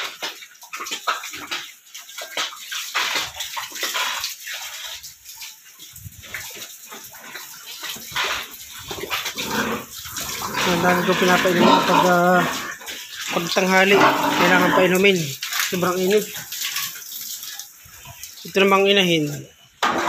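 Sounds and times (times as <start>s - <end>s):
pig drinking slurps: 0.0s - 19.5s
hose water splashing into trough: 0.0s - 20.0s.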